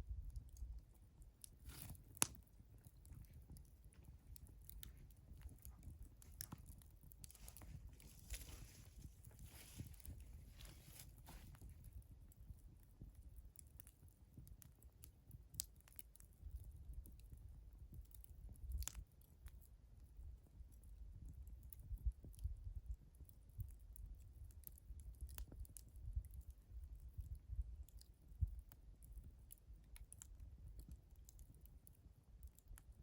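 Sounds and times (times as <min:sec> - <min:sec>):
wood fire crackling and popping: 0:00.1 - 0:33.0.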